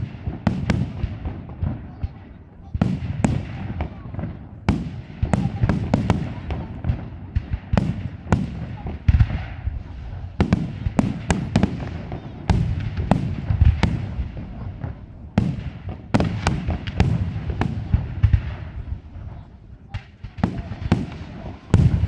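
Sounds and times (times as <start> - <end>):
fireworks bursting: 0.0 - 22.0
low rumbling echo: 0.0 - 22.0.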